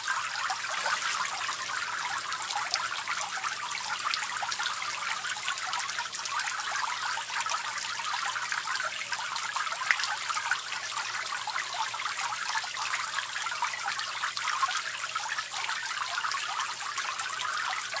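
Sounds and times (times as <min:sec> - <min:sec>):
fountain water trickling: 0:00.0 - 0:18.0.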